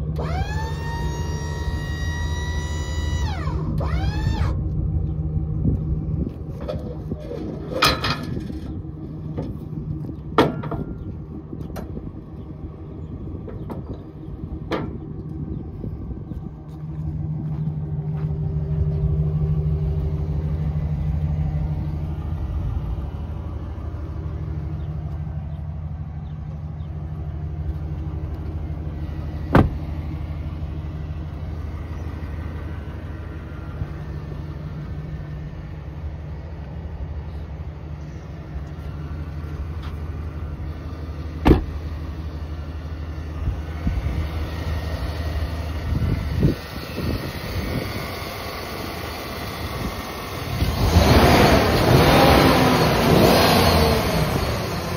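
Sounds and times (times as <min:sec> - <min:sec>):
pickup engine idling: 0:00.0 - 0:54.9.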